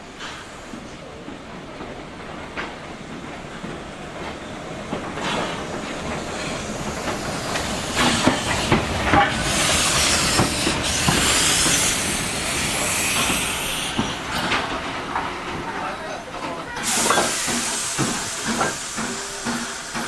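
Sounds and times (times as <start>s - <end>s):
steam train hiss: 0.0s - 20.0s
train wheels clicking over rails: 0.1s - 20.0s.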